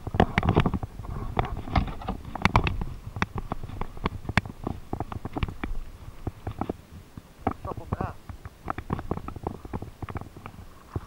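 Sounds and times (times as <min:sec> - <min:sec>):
light clicks and knocks: 0:00.0 - 0:11.0.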